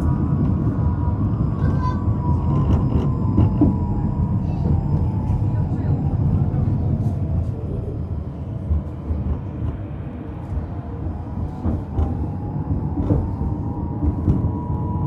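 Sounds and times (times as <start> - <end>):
tram rumble: 0.0 - 15.0.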